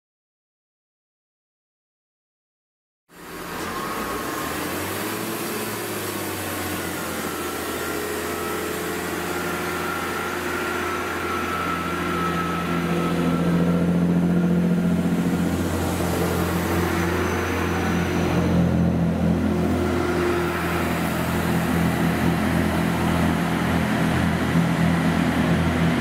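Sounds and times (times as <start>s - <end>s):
diesel train engines droning: 3.1s - 26.0s
thin whine: 3.1s - 26.0s.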